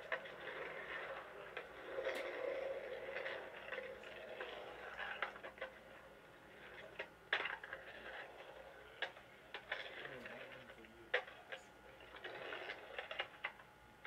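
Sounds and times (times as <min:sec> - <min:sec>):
skateboard clacks: 0:00.0 - 0:13.7
skateboard rolling on concrete: 0:00.0 - 0:14.0.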